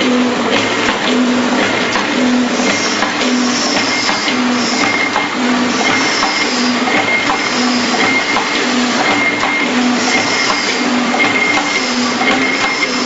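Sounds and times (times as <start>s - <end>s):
machine clattering clicks: 0.0s - 13.0s
machine low tone: 0.0s - 13.0s.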